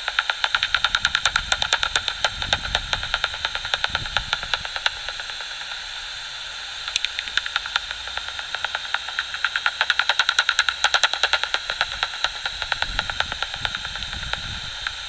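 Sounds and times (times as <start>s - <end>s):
bat echolocation clicks: 0.0s - 5.9s, 6.8s - 15.0s
electronic hiss: 0.0s - 15.0s.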